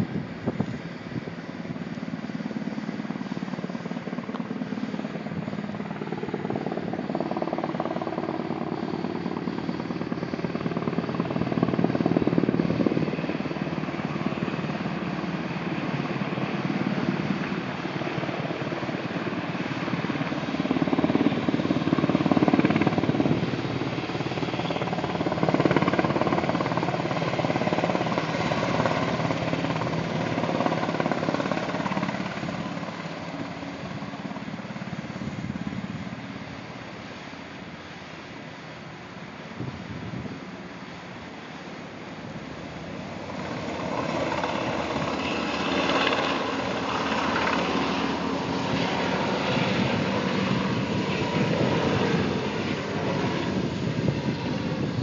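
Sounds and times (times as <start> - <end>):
helicopter rotor beating: 0.0 - 37.0, 41.8 - 55.0
helicopter turbine noise: 0.0 - 55.0.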